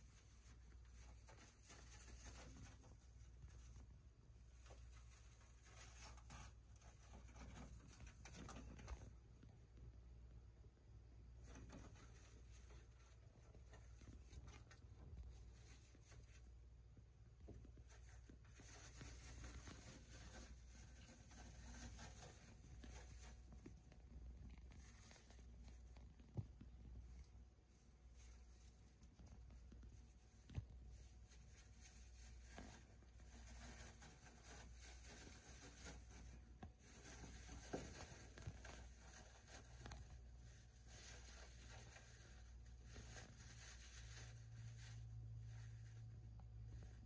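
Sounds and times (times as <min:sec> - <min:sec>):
hamster rustling in wood shavings: 0:00.0 - 0:10.0, 0:11.0 - 0:47.0.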